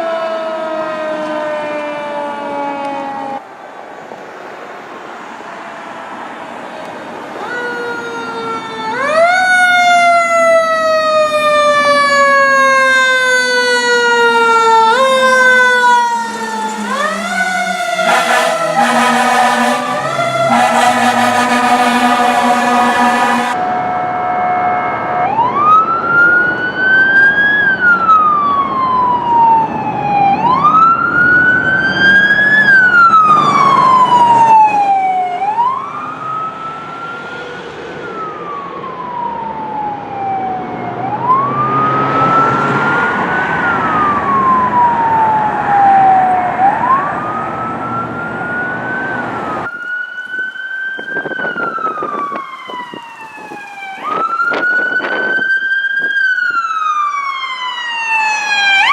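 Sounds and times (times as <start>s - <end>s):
emergency vehicle siren wailing: 0.0s - 4.1s, 5.0s - 58.9s
engine and road noise: 0.0s - 58.9s.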